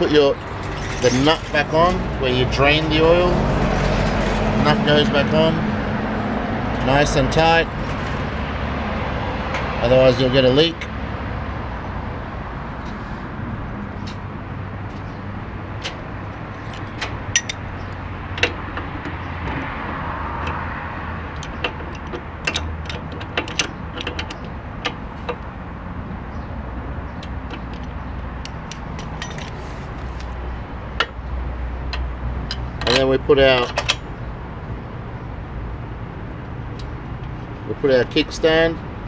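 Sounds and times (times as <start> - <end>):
street traffic hum: 0.0 - 39.0.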